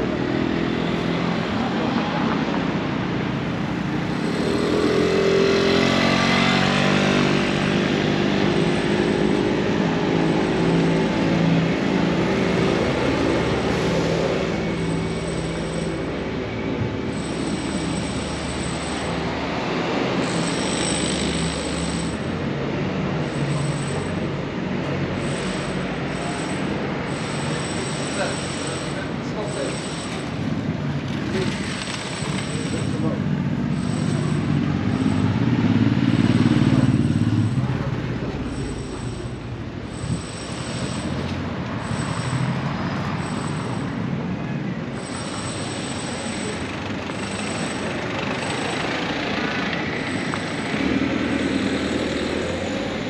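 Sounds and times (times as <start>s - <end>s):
rail vehicle motor whining: 0.0s - 53.0s
high wheel squeals: 3.6s - 53.0s.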